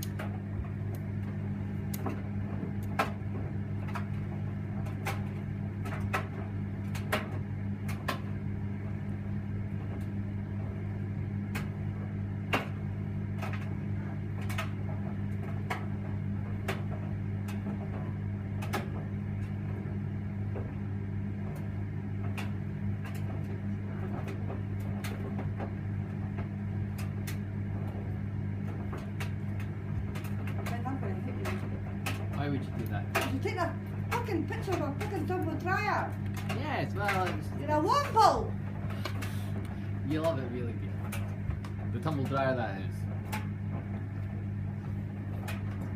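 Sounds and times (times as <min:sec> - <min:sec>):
sharp clicks in dryer drum: 0:00.0 - 0:45.9
tumble dryer motor hum: 0:00.0 - 0:45.9.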